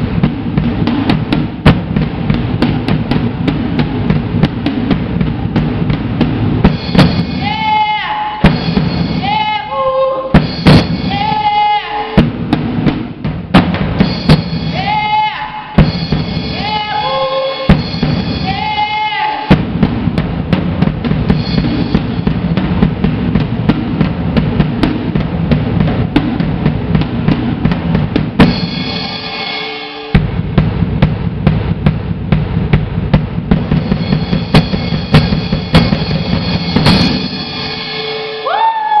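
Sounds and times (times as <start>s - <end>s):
drum kit played fast: 0.0s - 39.0s.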